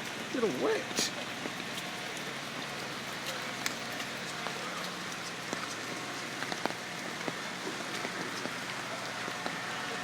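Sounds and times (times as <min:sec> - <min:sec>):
raindrops ticking close by: 0:00.0 - 0:10.0
steady rain: 0:00.0 - 0:10.0.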